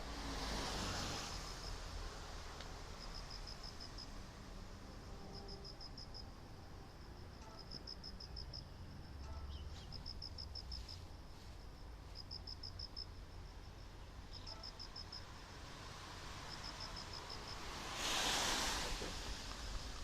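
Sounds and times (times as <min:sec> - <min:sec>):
insect chirping: 0:00.4 - 0:20.0.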